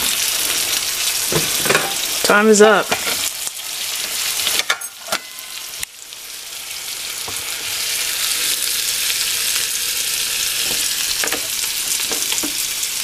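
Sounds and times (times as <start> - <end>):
steak sizzling on grill: 0.0 - 13.0.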